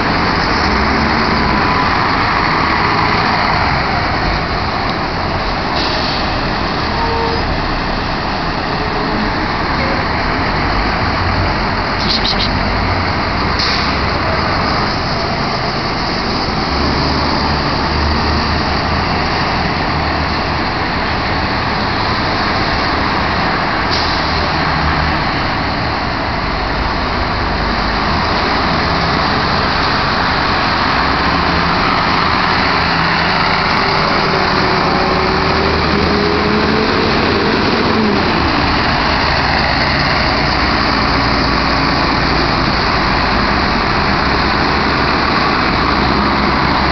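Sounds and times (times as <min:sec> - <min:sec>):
buses driving past: 0:00.0 - 0:46.9.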